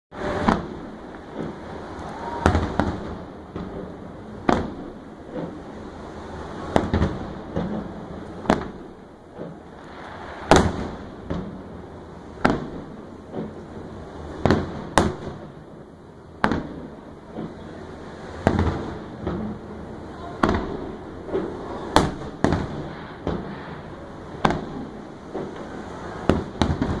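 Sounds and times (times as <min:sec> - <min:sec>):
fireworks shells booming: 0:00.1 - 0:05.9, 0:06.6 - 0:27.0.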